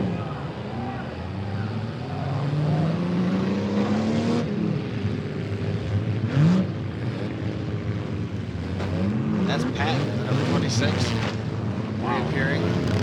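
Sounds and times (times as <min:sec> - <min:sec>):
engines revving: 0:00.0 - 0:13.0.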